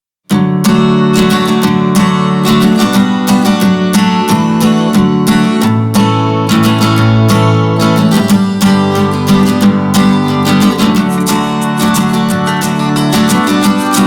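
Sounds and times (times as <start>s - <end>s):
acoustic guitar strumming chords: 0.3s - 14.0s.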